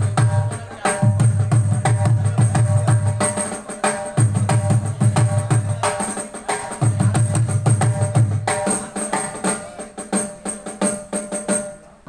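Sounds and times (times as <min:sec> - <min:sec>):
fast drum strokes: 0:00.0 - 0:12.0.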